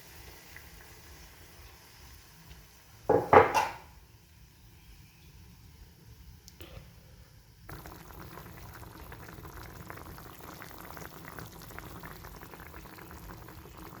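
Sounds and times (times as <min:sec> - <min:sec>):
food sizzling in a frying pan: 0:00.0 - 0:06.4, 0:07.5 - 0:14.0.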